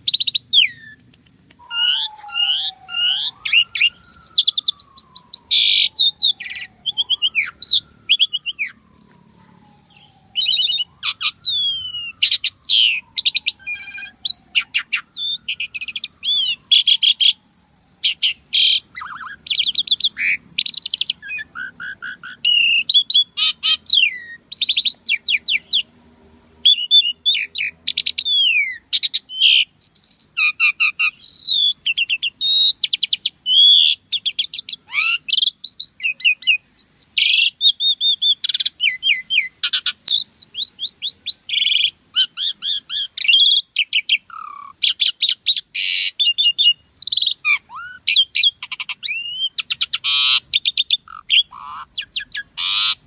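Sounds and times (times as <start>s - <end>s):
starling singing: 0.0s - 53.0s.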